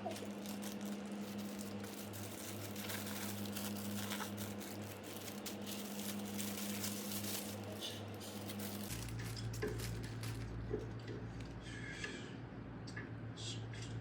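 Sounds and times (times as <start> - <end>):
low pulsing hum: 0.0 - 14.0.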